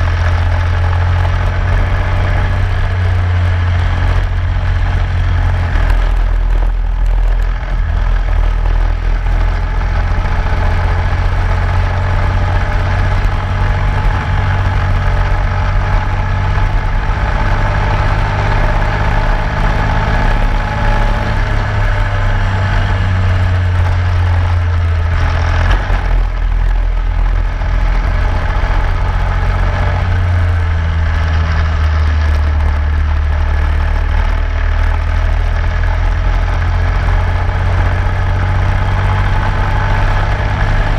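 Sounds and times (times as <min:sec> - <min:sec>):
racing engine rumbling: 0:00.0 - 0:40.9.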